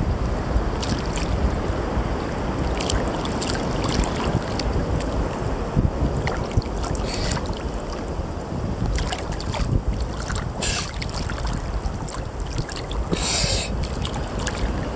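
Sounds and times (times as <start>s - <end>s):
hissy water splashes: 0.0s - 14.9s
low rumble of water and wind: 0.0s - 14.9s
sea water lapping and sloshing: 0.0s - 14.9s.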